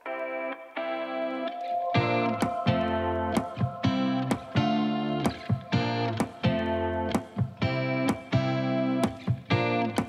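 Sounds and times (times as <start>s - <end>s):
guitar background music: 0.0s - 10.0s.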